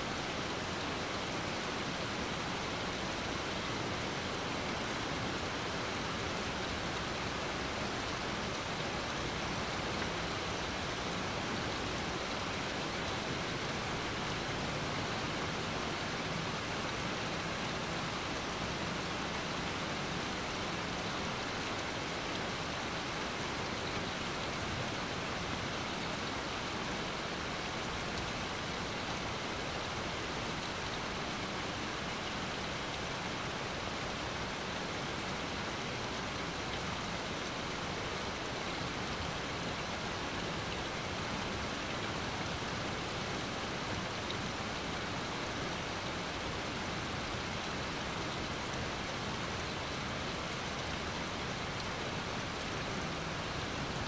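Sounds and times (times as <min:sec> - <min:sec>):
rain falling on lawn and trees: 0:00.0 - 0:54.0.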